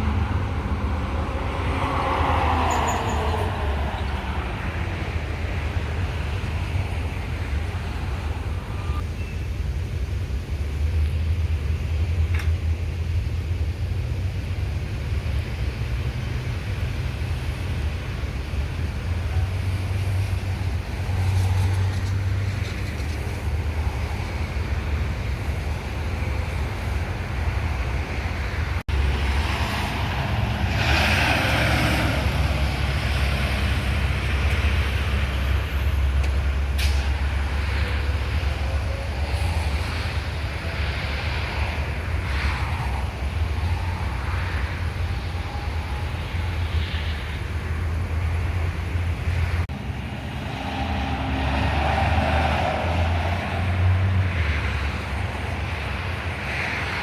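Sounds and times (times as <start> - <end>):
trucks passing on road: 0.0 - 57.0.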